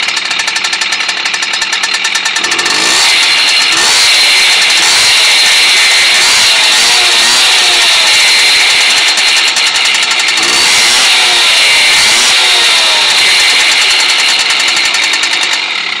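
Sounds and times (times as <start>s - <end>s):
moped two-stroke engine revving: 0.0s - 16.0s.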